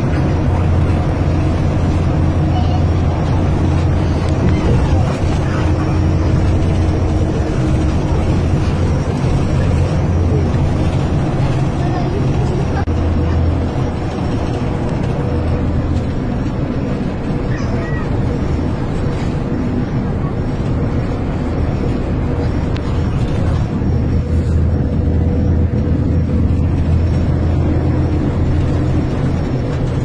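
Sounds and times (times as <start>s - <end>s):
bus engine and tyres droning: 0.0s - 30.0s.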